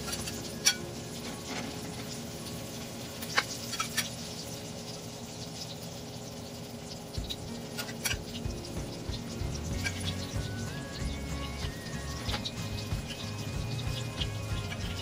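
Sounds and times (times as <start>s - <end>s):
eggplant sizzling in hot oil: 0.0s - 15.0s.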